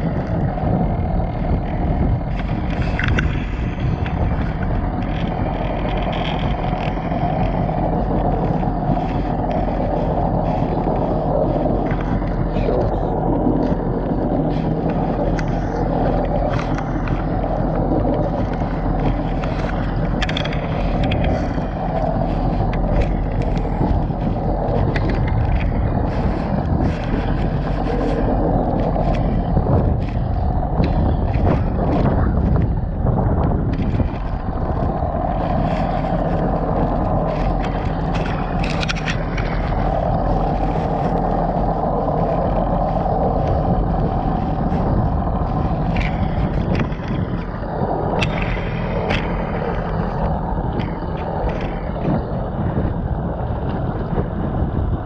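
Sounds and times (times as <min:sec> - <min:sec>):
watercraft engine running: 0:00.0 - 0:55.0.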